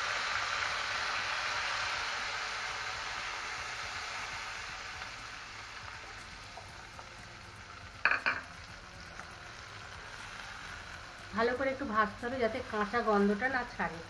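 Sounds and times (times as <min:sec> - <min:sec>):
oil sizzling: 0:00.0 - 0:14.0.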